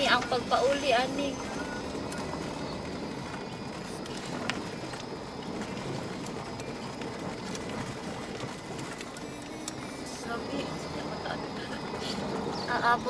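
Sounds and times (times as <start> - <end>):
tyres and engine rumble: 0.0 - 13.0.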